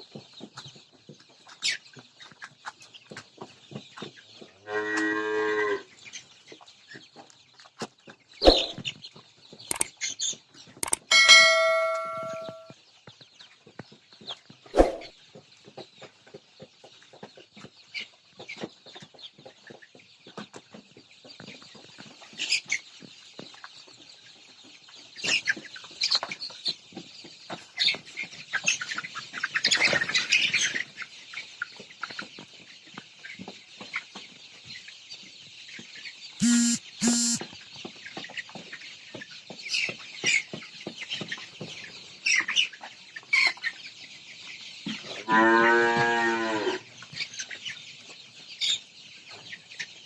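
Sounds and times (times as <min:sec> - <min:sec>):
chickens clucking and chirping: 0:00.0 - 0:04.6, 0:05.9 - 0:09.8, 0:10.4 - 0:45.2, 0:46.8 - 0:50.0.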